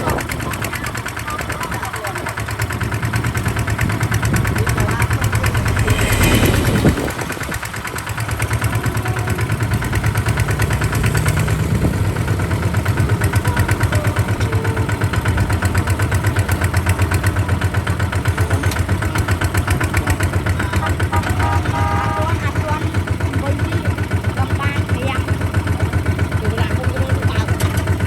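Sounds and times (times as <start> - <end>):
diesel engine chugging: 0.0 - 28.0.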